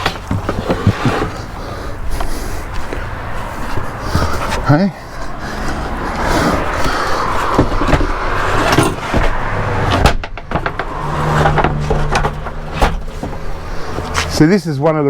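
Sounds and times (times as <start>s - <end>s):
knocks and bumps: 0.0s - 14.4s
wooden panels scraping: 0.0s - 14.6s.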